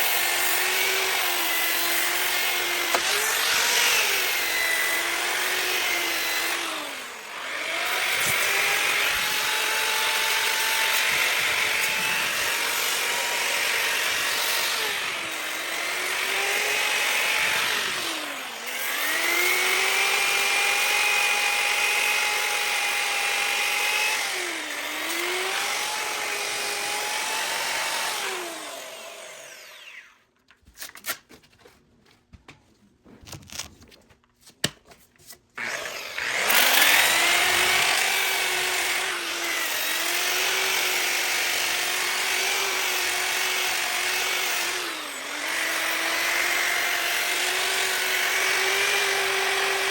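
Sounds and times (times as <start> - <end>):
grinder motor whine: 0.0 - 30.2, 35.6 - 49.9.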